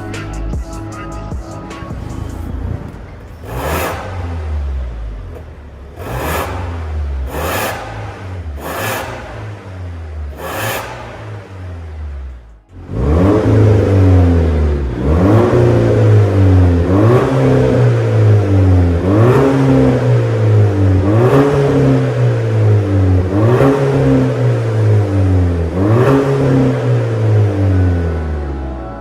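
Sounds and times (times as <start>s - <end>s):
car engine revving: 1.5s - 29.0s.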